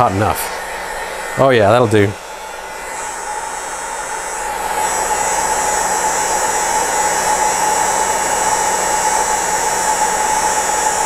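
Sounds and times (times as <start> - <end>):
heat gun blowing air: 0.0 - 11.0
heat gun whine: 0.0 - 11.0.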